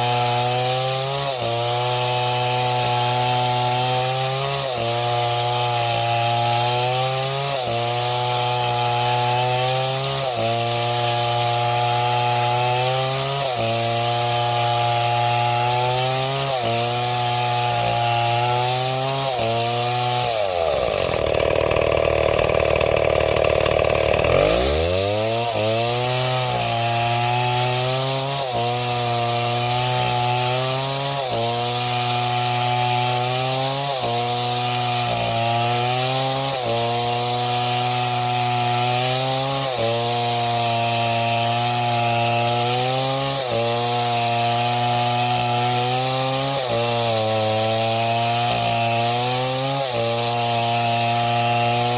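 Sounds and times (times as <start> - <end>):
chainsaw cutting: 0.0 - 51.9.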